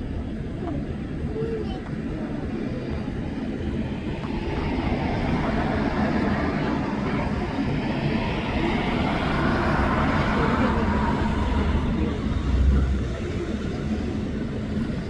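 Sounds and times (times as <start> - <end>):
jet airliner engine rushing: 2.6 - 15.0.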